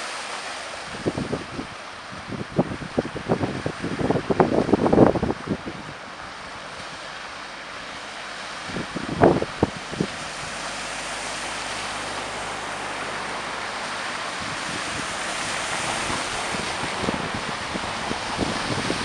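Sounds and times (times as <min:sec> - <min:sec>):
cars driving through water: 0:00.0 - 0:19.0.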